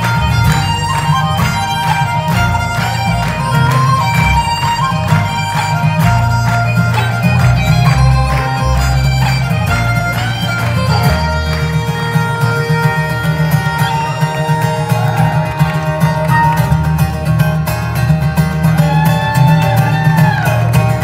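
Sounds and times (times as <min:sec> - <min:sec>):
fiddle: 0:00.0 - 0:21.0
small wind instrument: 0:00.0 - 0:21.0
strummed acoustic guitar: 0:00.0 - 0:21.0.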